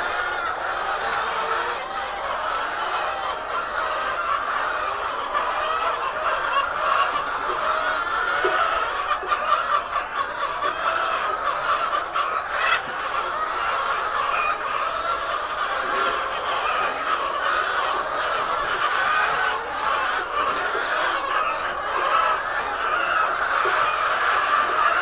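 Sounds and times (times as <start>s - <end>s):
hens clucking and squawking: 0.0s - 25.0s.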